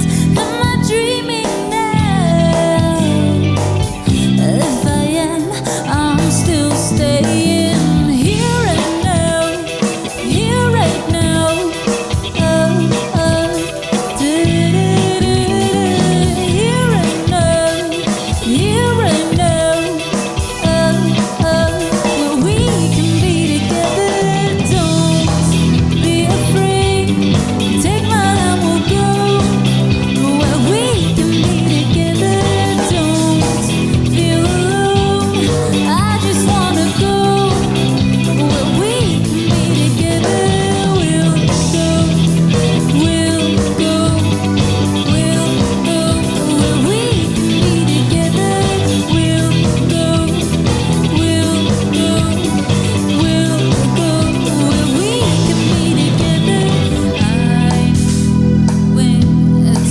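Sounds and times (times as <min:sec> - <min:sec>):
funk rock band playing: 0:00.0 - 0:59.9
swooping lead melody: 0:00.0 - 0:59.9.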